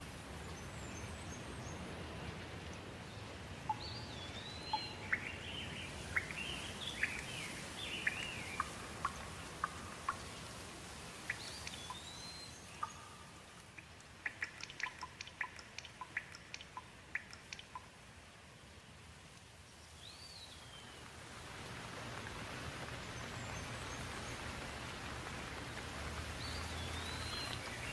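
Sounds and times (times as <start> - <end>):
water drips: 0.0 - 18.6, 19.2 - 27.9
rain hiss: 0.0 - 27.9
songbirds singing: 0.3 - 17.9, 19.7 - 21.1, 23.0 - 25.1, 25.8 - 27.9.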